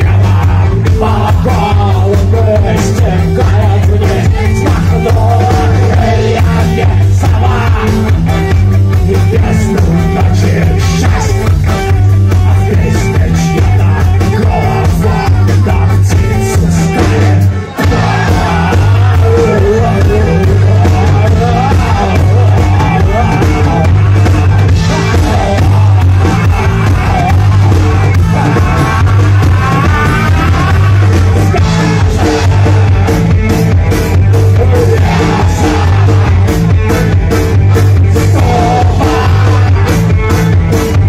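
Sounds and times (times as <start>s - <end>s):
man singing or shouting: 0.0s - 37.3s, 38.0s - 40.4s
folk-rock band playing: 0.0s - 41.0s.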